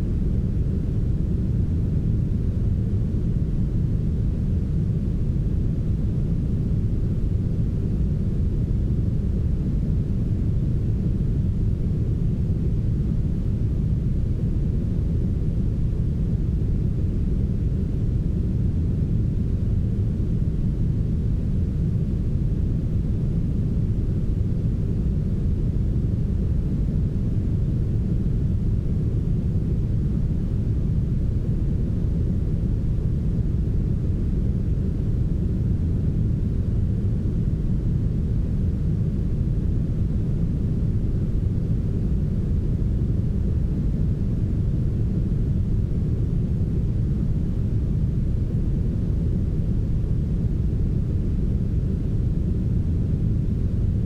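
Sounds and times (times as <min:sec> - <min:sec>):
steady brown noise: 0:00.0 - 0:54.0.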